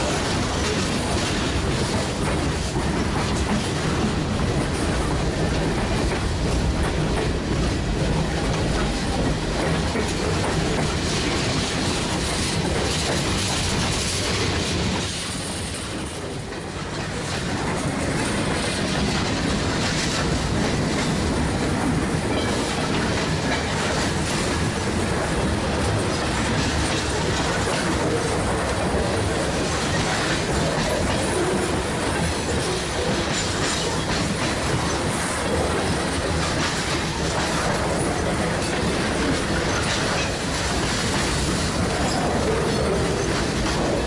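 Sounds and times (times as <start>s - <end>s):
steel train wheels on rails: 0.0s - 44.0s.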